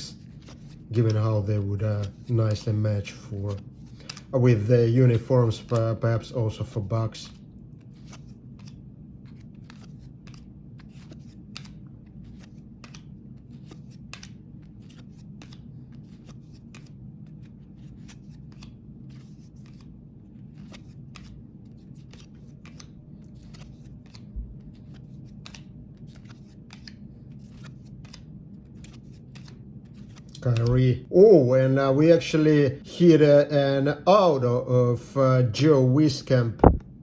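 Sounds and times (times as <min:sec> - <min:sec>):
low steady hum: 0:00.0 - 0:37.0
cards flipping and sliding: 0:00.1 - 0:31.0.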